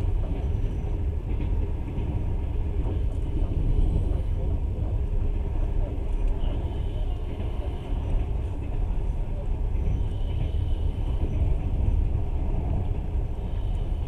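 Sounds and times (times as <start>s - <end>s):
train wheels rumbling inside car: 0.0s - 14.0s.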